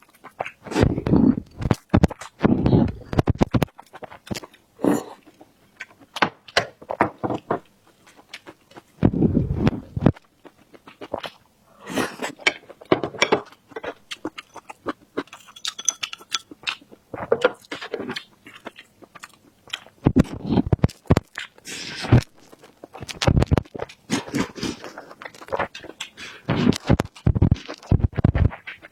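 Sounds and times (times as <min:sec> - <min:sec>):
crunchy chewing: 0:00.0 - 0:28.9.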